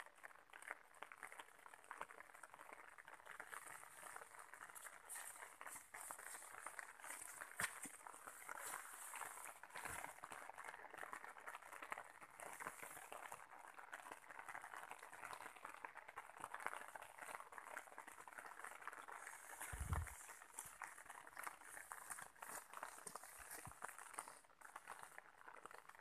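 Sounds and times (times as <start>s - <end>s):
rain on an umbrella: 0.0s - 26.0s.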